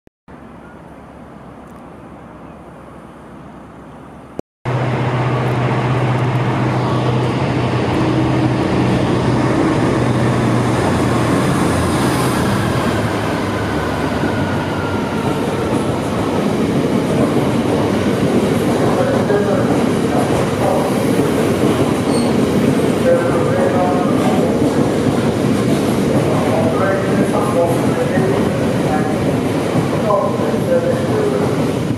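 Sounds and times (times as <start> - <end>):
diesel locomotive engine: 0.3 - 31.9.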